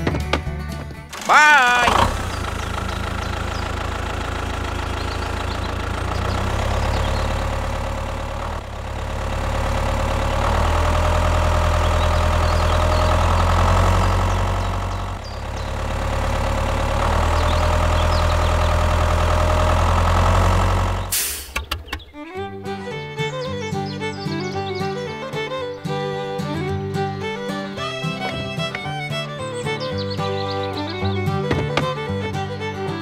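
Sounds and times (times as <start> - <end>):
tractor engine chugging: 0.6 - 33.0.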